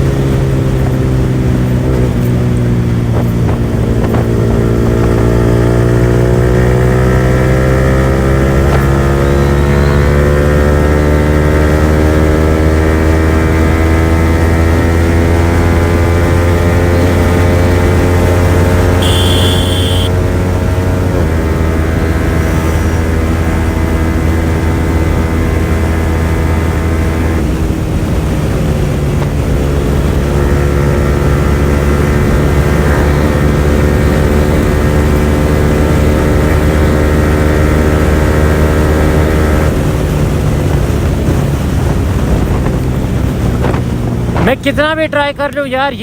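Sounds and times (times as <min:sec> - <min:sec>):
motorcycle engine at high revs: 0:00.0 - 0:44.4.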